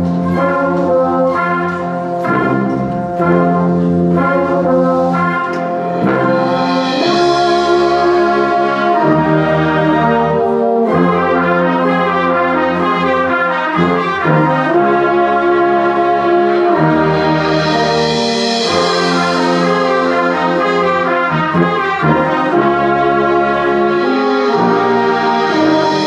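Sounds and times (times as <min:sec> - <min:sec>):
brass band playing slow chords: 0:00.0 - 0:26.0.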